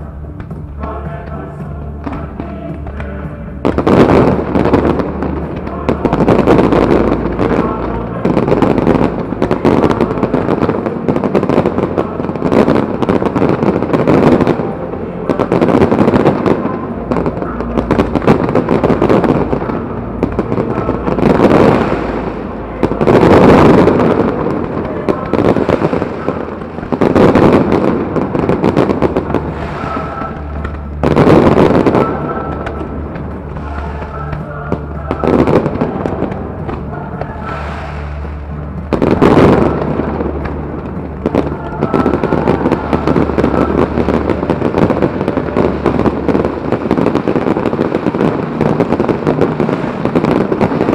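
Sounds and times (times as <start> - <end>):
fireworks cracking and banging: 0.0 - 50.9.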